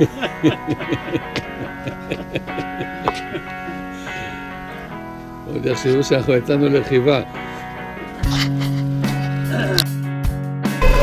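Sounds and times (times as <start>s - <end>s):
steady sustained tone: 0.0s - 9.8s
plucked guitar notes: 0.0s - 11.0s.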